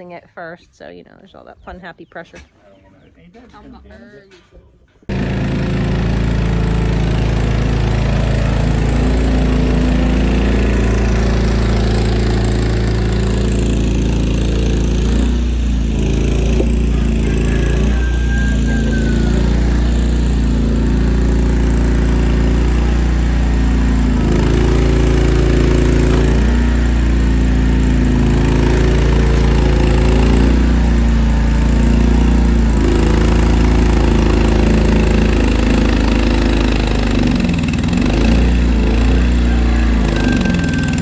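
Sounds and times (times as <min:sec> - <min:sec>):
small engine running: 0:05.1 - 0:41.0.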